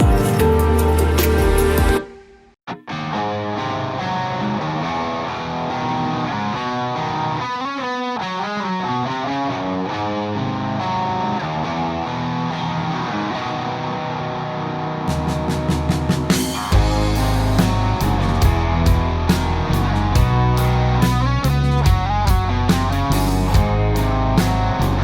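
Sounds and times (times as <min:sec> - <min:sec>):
guitar background music: 0:00.0 - 0:25.0.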